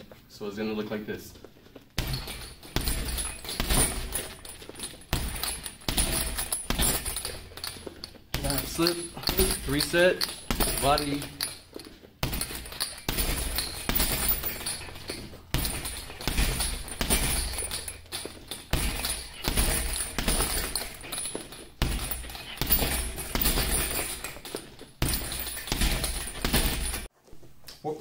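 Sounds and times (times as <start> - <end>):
gloves striking punching bag: 2.0 - 11.6, 12.2 - 27.1.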